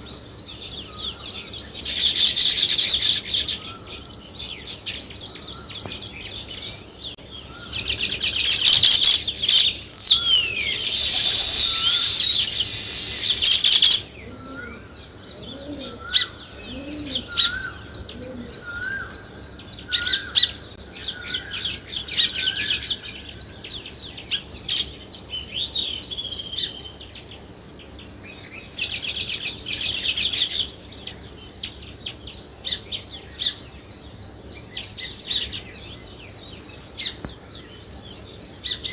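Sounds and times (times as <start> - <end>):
songbirds chirping and chattering: 0.0 - 38.9.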